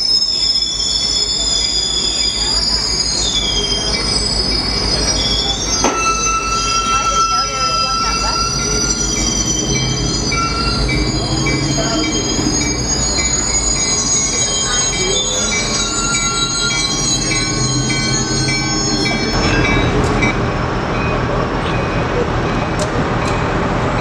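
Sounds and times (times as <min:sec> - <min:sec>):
railroad cars rumbling: 0:00.0 - 0:24.0
train wheels squealing on rails: 0:00.0 - 0:24.0.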